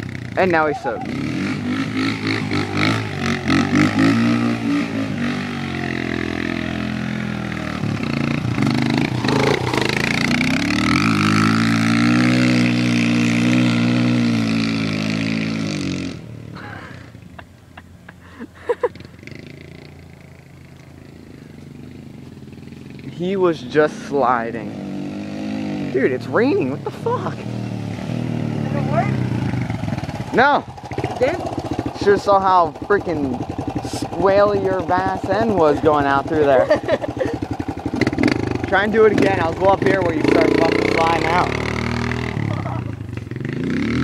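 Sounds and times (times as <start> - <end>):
dirt bike engine revving: 0.0 - 17.2, 18.7 - 44.0.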